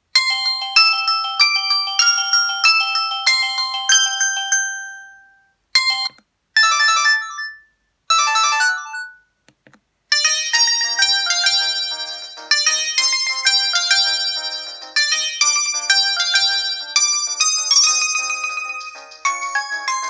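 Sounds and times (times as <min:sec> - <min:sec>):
mobile phone ringtone melodies: 0:00.2 - 0:09.3, 0:10.1 - 0:20.0.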